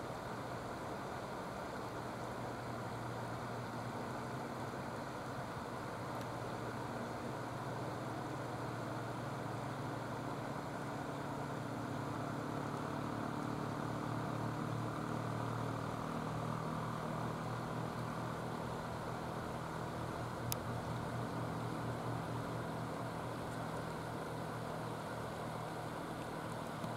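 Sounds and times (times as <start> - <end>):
constant noise wash: 0.0 - 26.9
low engine hum: 0.0 - 26.9.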